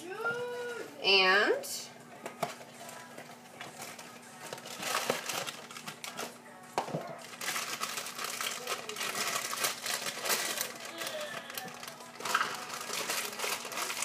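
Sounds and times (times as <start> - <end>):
plastic bag crinkling: 2.3 - 14.0.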